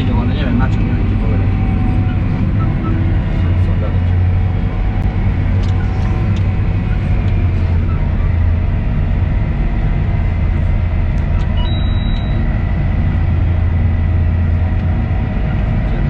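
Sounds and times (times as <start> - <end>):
high whine: 0.0 - 16.0
tractor engine droning: 0.0 - 16.0.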